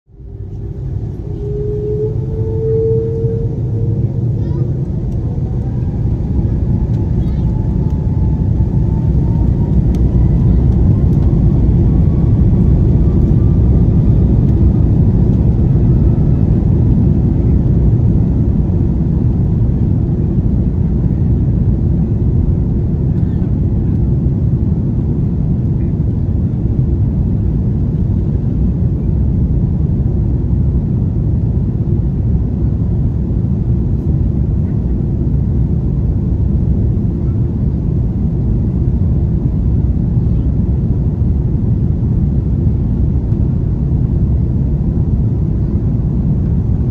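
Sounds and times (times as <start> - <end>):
faint engine whine: 0.1 - 46.9
jet engines deep rumble: 0.1 - 46.9.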